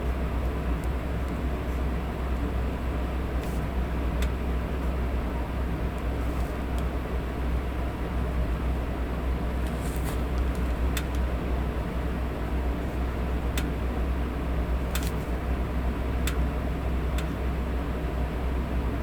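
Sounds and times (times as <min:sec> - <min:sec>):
fan noise with low hum: 0:00.0 - 0:19.0.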